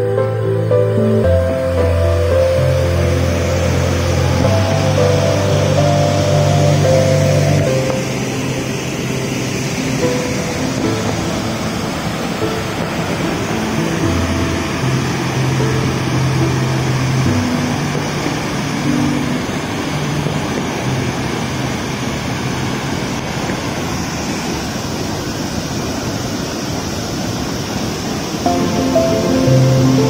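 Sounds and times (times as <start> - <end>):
soft background music: 0.0 - 23.0, 28.5 - 30.0
water rushing over spillway: 0.0 - 30.0.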